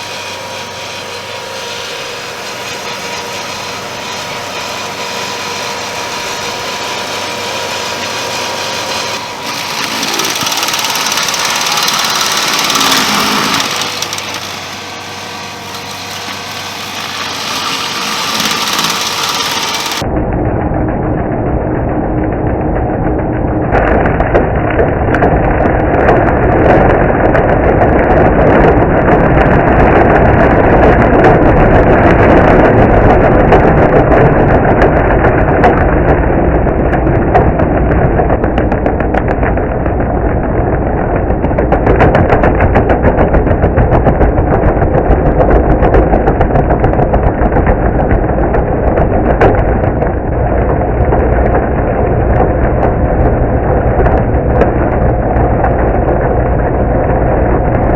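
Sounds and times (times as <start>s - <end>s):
stump grinder engine drone: 0.0s - 57.9s.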